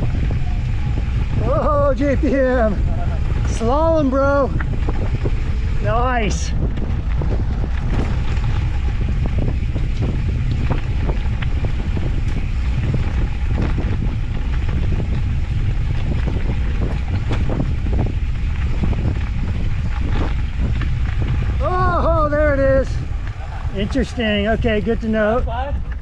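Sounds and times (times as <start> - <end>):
tyre noise on dirt: 0.0 - 26.0
wind rumble on microphone: 0.0 - 26.0
bike clicks and knocks: 2.9 - 5.9, 6.6 - 21.6, 23.0 - 26.0.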